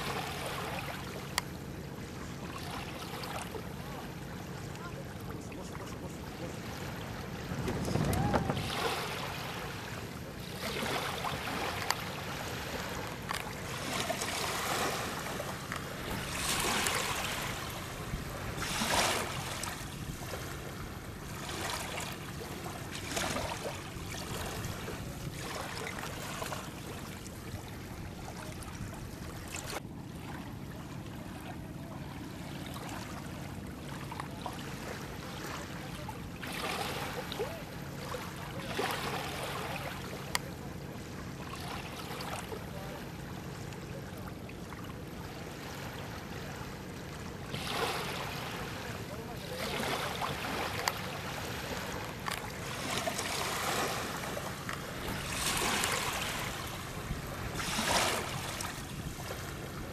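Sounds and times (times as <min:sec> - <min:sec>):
water splashing against wooden boat: 0:00.0 - 0:59.9.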